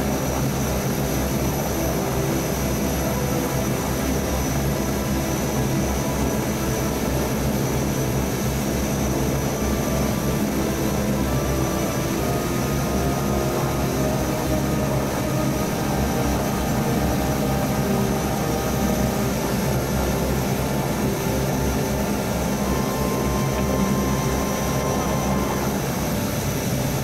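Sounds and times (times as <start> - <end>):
turboprop engines droning: 0.0 - 27.0.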